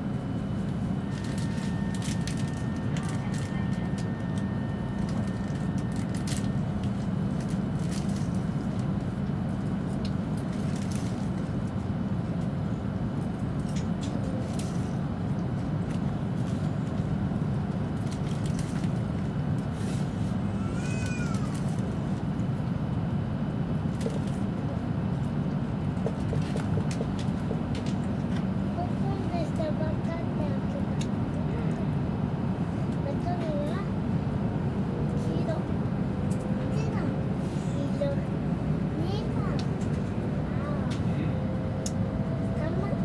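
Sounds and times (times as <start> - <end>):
train cabin low hum: 0.0 - 43.0.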